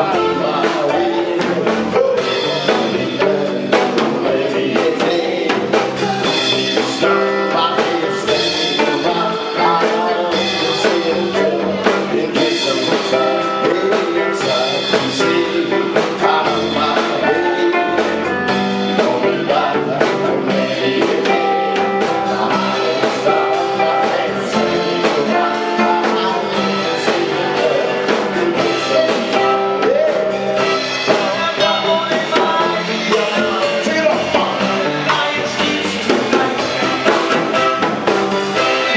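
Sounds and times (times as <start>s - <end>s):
person singing: 0.0s - 37.9s
drum kit: 0.0s - 38.9s
electric guitar: 0.0s - 38.9s.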